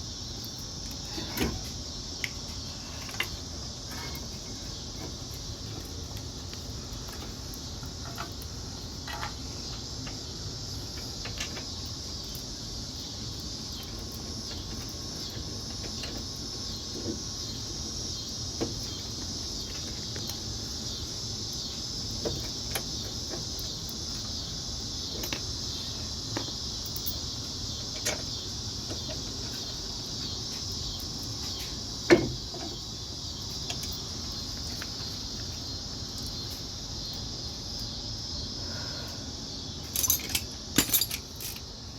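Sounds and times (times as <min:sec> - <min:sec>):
steady high-pitched hiss: 0:00.0 - 0:41.9.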